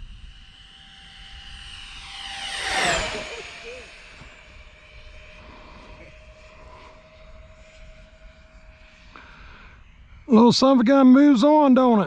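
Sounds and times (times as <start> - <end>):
distant electric fan whine: 0.0 - 11.8.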